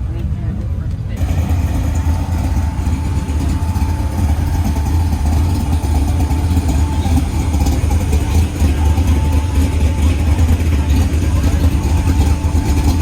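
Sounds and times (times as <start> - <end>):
car engine idling: 1.0 - 13.0.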